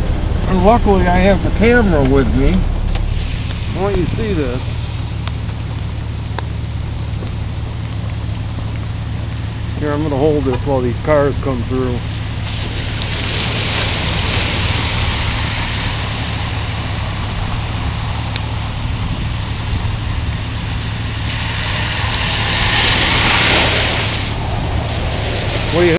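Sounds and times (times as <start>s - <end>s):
heavy rain falling: 0.0s - 25.9s
tyres spraying through water: 0.0s - 25.9s.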